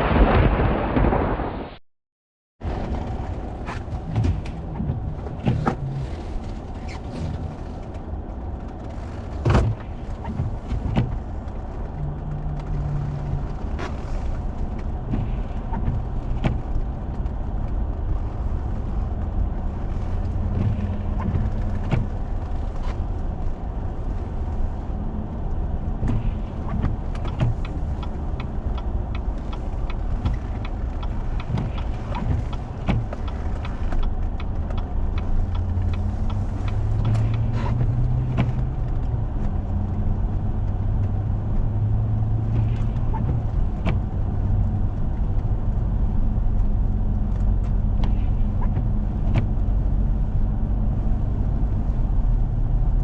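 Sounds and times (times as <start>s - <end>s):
vehicle driving on snow: 2.6s - 53.0s.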